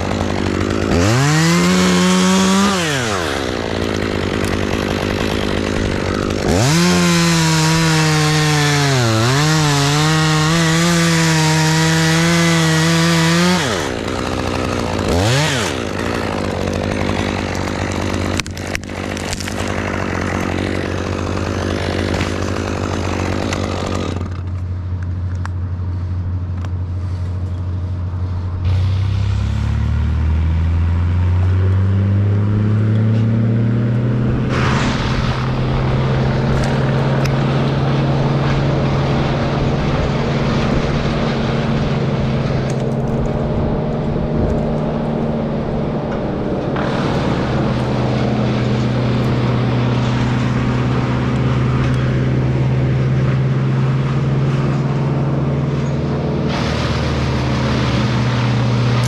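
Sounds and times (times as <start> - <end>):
chainsaw cutting: 0.0 - 25.6, 26.9 - 59.0
engine droning: 0.0 - 59.0.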